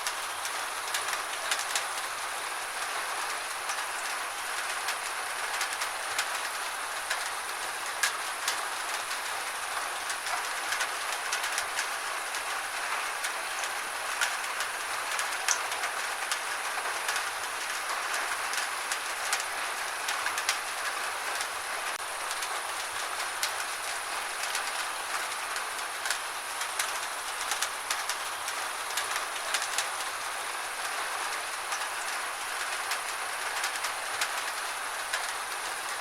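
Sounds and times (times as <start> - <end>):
gentle rain hissing: 0.0 - 36.0
raindrops ticking on a surface: 0.0 - 36.0.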